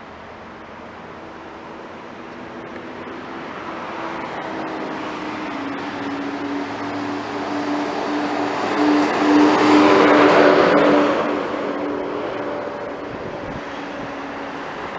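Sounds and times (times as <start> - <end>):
diesel bus engine drone: 0.0 - 14.9
tyre and road noise: 0.0 - 14.9.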